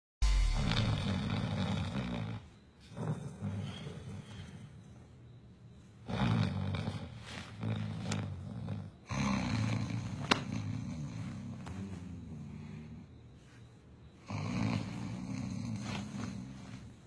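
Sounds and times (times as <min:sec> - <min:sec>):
man snoring: 0:00.2 - 0:04.7, 0:06.0 - 0:13.1, 0:14.2 - 0:17.0.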